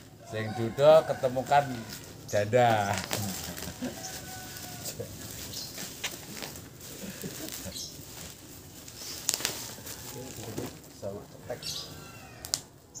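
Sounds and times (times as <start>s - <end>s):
bubble wrap crinkling: 0.0s - 11.1s.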